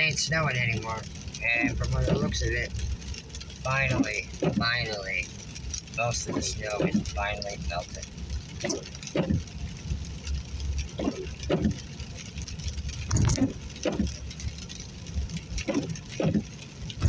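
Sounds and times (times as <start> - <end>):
car driving on wet road: 0.0 - 17.0
windshield wipers sweeping: 0.0 - 17.0.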